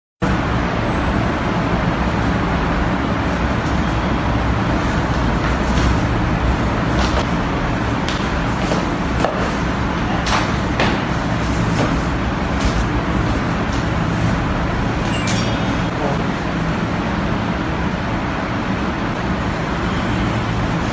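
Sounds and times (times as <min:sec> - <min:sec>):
traffic rumble: 0:00.2 - 0:20.9.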